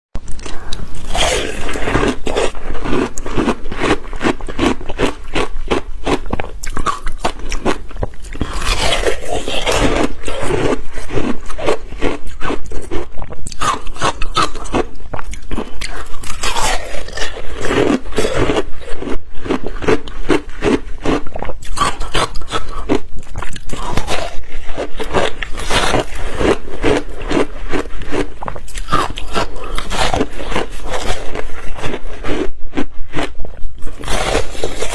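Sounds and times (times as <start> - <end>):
ice crunching while chewed: 0.2 - 34.9.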